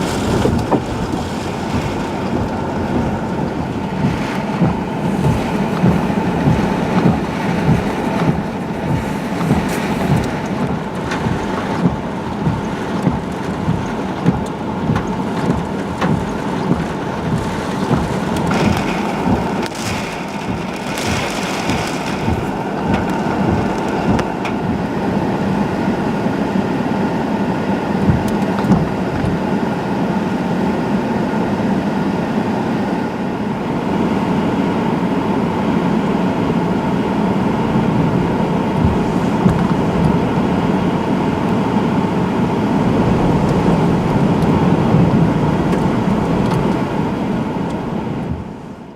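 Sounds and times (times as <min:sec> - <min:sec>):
wind gusts thumping microphone: 0:00.0 - 0:30.4, 0:35.8 - 0:48.9
heavy rain: 0:00.0 - 0:48.9
roaring wind: 0:00.0 - 0:48.9.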